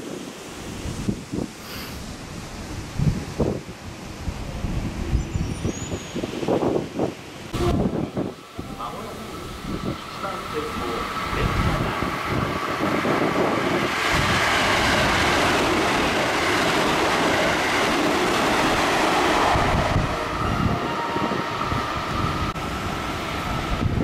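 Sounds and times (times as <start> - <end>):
wind buffeting microphone: 0.0 - 24.0
electric train rushing past: 2.1 - 24.0.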